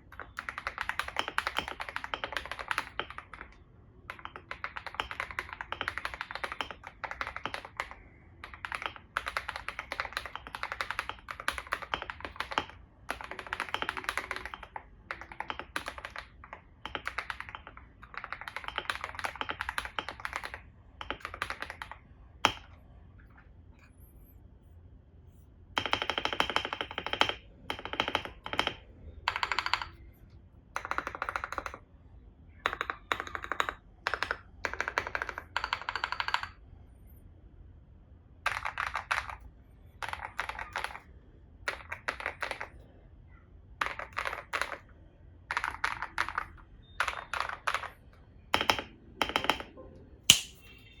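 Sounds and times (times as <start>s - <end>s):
mechanical keyboard typing: 0.0s - 22.8s, 25.8s - 30.0s, 30.8s - 31.8s, 32.7s - 36.6s, 38.5s - 41.1s, 41.7s - 42.8s, 43.8s - 50.6s.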